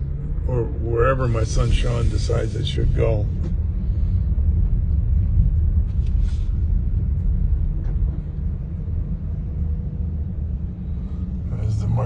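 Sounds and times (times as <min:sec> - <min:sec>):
vehicle rumbling while driven slowly: 0:00.0 - 0:12.0.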